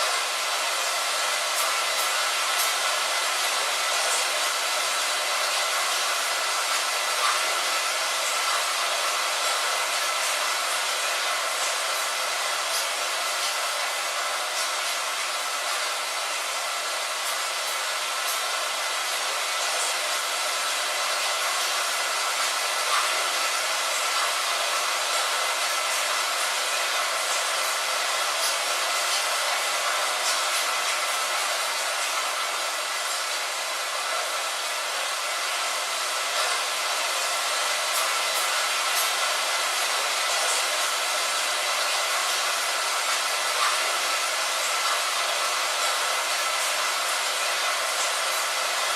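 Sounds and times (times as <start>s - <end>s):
rain on a window: 0.0s - 48.9s.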